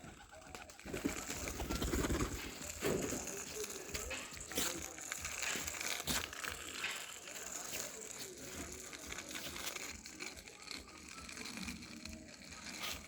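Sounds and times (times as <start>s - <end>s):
crunching and crinkling handling noise: 0.0s - 13.0s.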